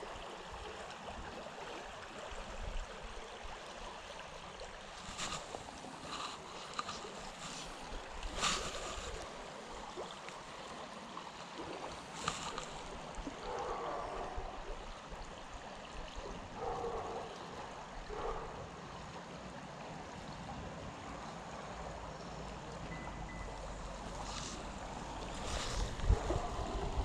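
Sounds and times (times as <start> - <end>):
creek water running over rocks: 0.0 - 27.0.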